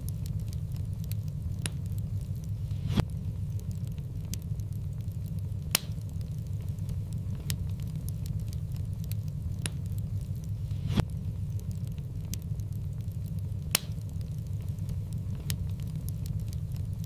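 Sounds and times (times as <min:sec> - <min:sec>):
low rumble: 0:00.0 - 0:17.0
sharp fire pops: 0:00.0 - 0:17.0
wood fire crackling: 0:00.0 - 0:17.0.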